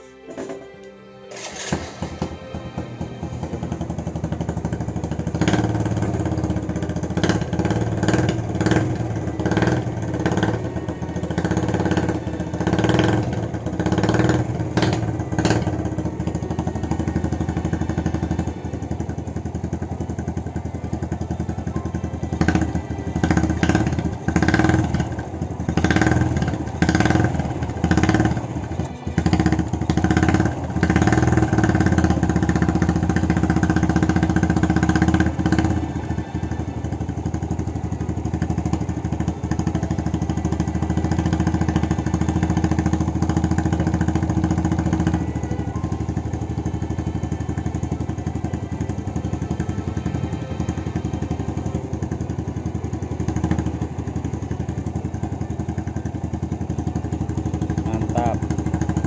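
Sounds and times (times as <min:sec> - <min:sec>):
motorcycle engine revving and idling: 0:01.3 - 0:59.0.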